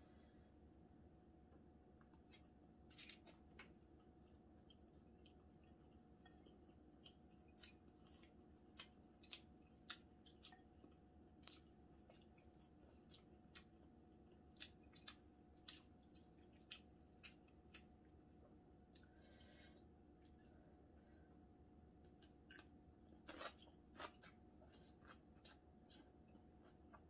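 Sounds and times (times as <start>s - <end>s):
faint steady hum: 0.0s - 27.0s
soft chewing: 1.5s - 27.0s.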